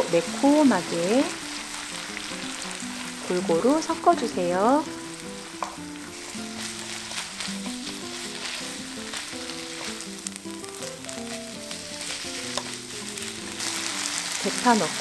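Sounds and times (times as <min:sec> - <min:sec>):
soft background music: 0:00.0 - 0:15.0
vegetables sizzling in a wok: 0:00.0 - 0:15.0.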